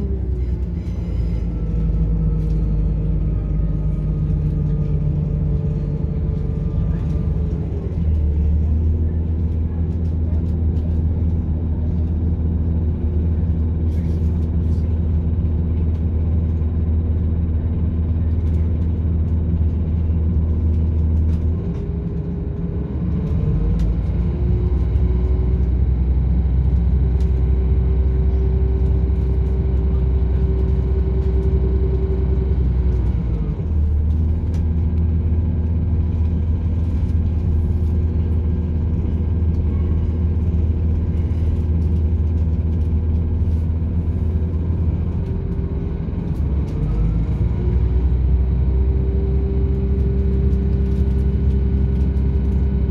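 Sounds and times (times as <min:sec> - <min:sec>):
train diesel engine running: 0:00.0 - 0:52.9.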